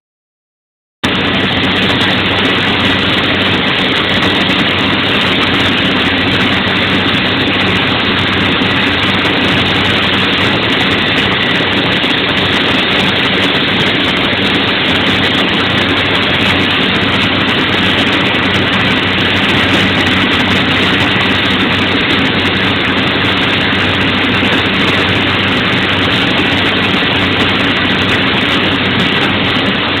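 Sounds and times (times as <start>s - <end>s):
large diesel engine running: 1.0s - 30.0s.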